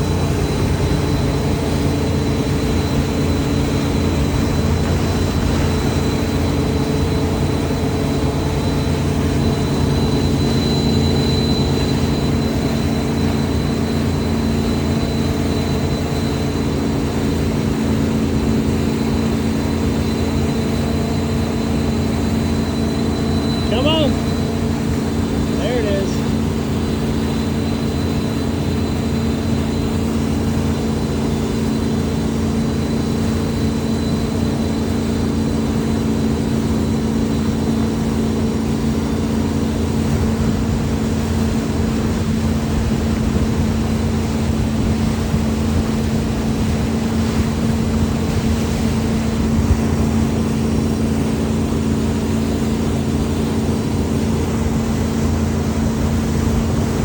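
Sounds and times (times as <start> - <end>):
motor droning steadily: 0.0 - 57.0.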